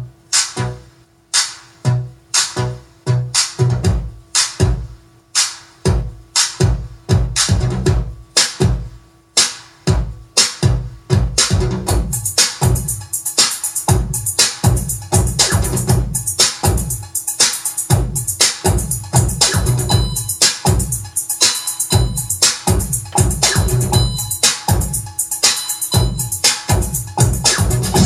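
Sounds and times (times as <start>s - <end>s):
electronic dance music: 0.0s - 28.0s.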